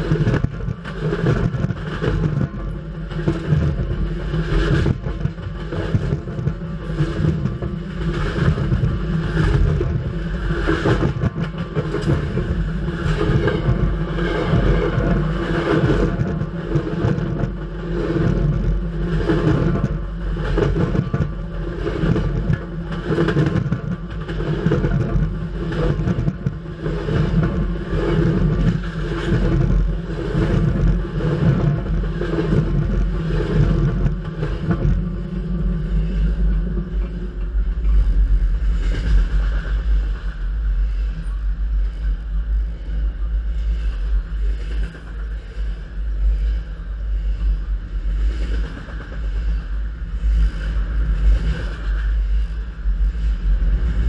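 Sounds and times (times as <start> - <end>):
freight train deep rumble: 0.0 - 54.0
freight train rolling overhead: 0.0 - 54.0.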